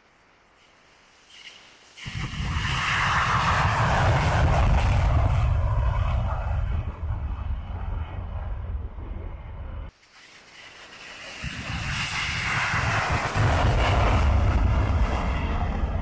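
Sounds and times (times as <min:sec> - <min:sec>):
fighter jet taking off: 0:02.0 - 0:16.0.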